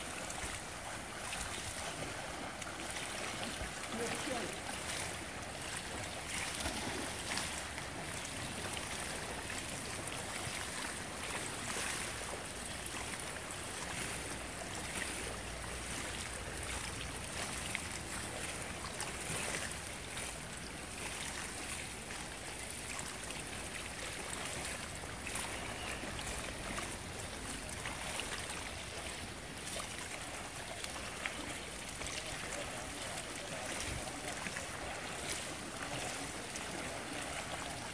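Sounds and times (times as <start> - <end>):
pool water splashing: 0.0 - 37.9.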